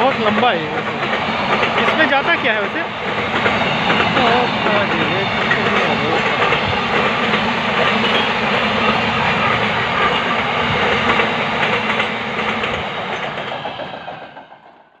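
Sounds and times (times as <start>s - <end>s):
freight train wagons rolling: 0.0s - 14.7s.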